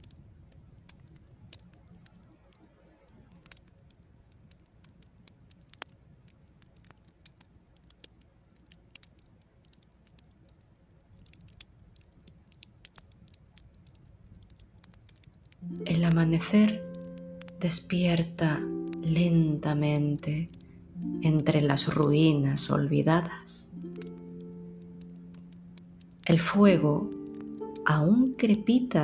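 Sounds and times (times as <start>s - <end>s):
campfire crackling: 0.0s - 29.0s
faint low rumble: 0.0s - 29.0s.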